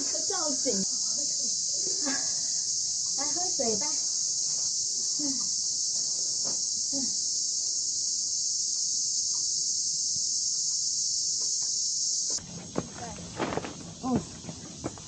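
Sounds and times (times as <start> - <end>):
cicada chorus buzzing: 0.0 - 15.0.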